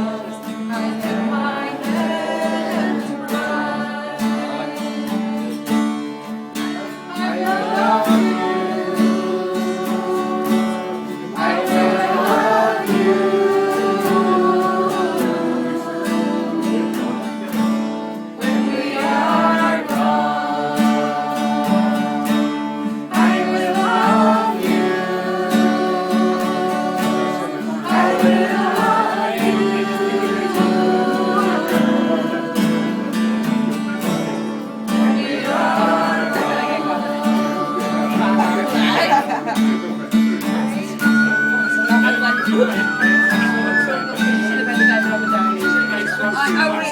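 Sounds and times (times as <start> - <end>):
person singing: 0.0 - 6.0, 6.6 - 39.6, 40.3 - 44.7
acoustic guitar: 0.0 - 46.9.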